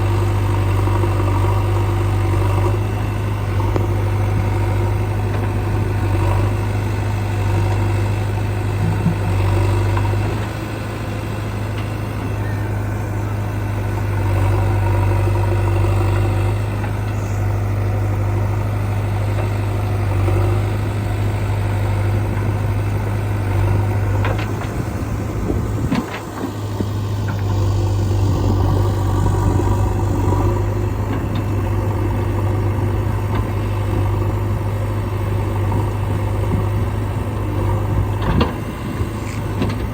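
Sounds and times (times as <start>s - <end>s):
heavy diesel machinery droning: 0.0s - 39.9s.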